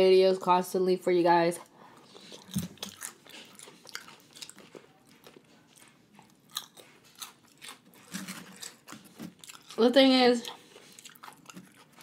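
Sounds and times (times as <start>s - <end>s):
crunchy chewing: 2.0s - 12.0s.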